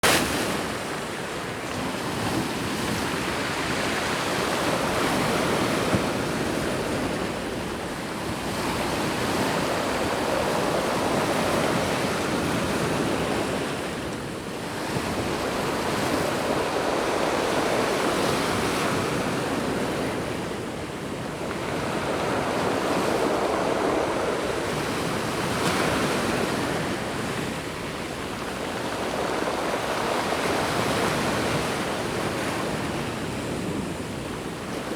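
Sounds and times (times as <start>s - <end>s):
sea waves breaking on a beach: 0.0s - 34.9s.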